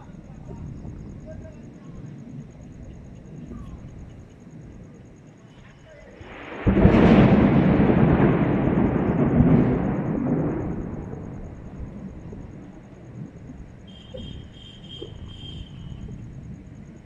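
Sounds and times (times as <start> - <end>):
thunder crack and rolling rumble: 0.0 - 17.0.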